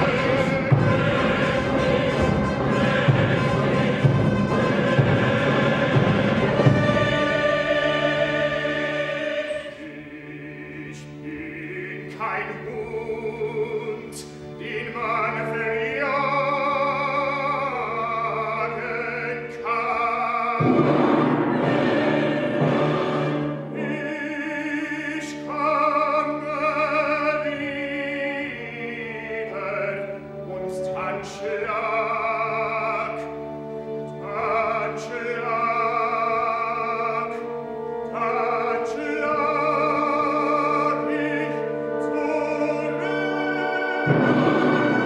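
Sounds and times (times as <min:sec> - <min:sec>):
man singing opera: 0:00.0 - 0:45.0.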